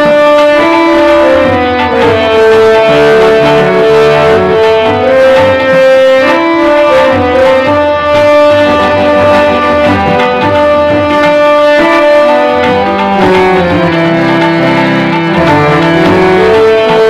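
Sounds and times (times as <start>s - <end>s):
keyboard melody: 0.0s - 17.0s
tabla drumming: 0.0s - 17.0s.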